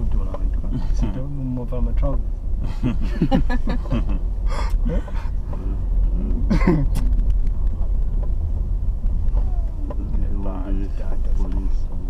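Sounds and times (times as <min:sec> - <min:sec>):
voices: 0:00.0 - 0:07.7, 0:09.3 - 0:12.0
car cabin rumble: 0:00.0 - 0:12.0.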